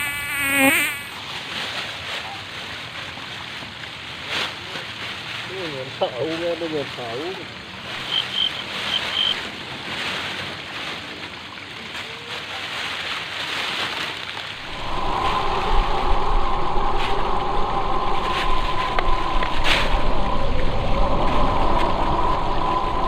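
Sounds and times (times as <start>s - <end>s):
rushing water: 1.1s - 23.0s.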